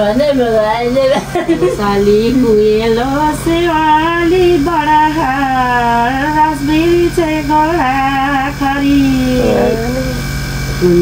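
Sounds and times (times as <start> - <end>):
woman singing unaccompanied: 0.0 - 10.2.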